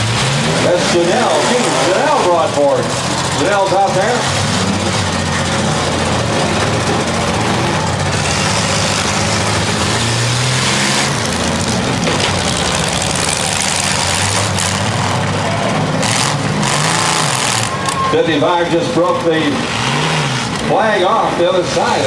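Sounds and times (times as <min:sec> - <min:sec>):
car engines revving: 0:00.0 - 0:22.0
steady rush of noise: 0:00.0 - 0:22.0.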